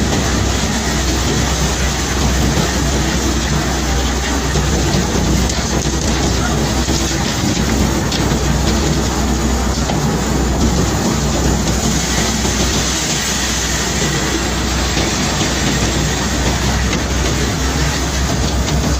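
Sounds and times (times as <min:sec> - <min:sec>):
unloading machinery humming: 0:00.0 - 0:18.9.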